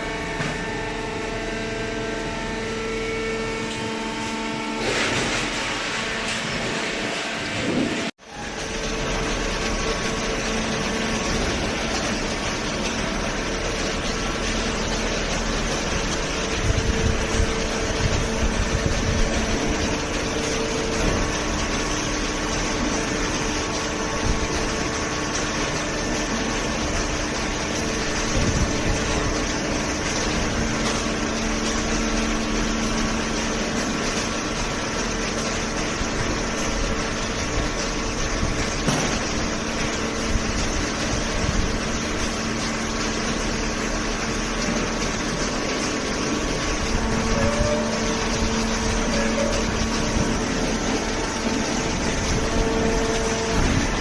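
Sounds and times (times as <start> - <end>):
hydraulic pump motor humming: 0.0 - 54.0.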